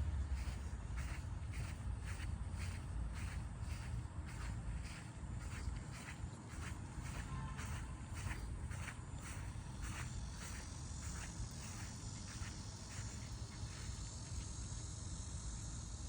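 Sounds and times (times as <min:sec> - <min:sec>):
insect chorus buzzing: 0:00.0 - 0:16.0.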